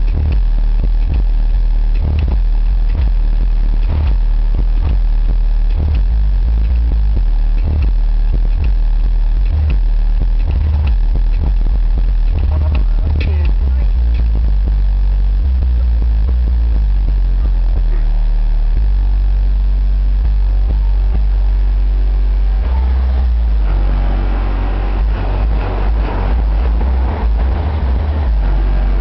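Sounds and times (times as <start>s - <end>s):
bass-heavy music from subwoofers: 0.0s - 29.0s.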